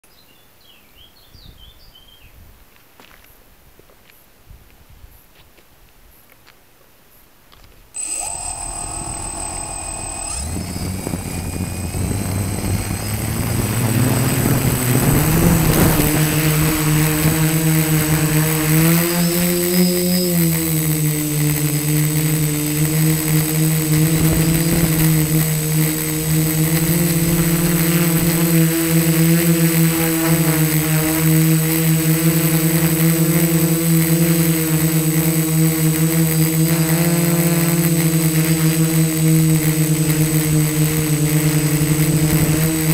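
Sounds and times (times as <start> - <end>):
drone motors and propellers humming: 8.0 - 42.9.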